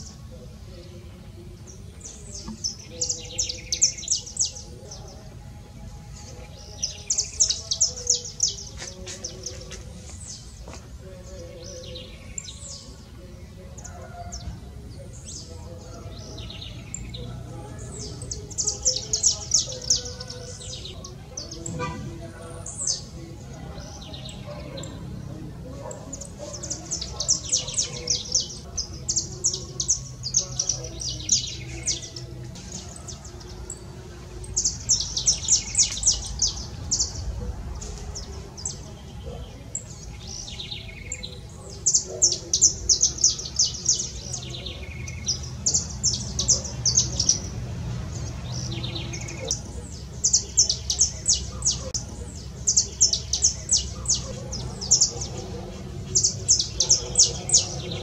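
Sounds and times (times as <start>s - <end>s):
small songbird singing: 0.0s - 58.0s.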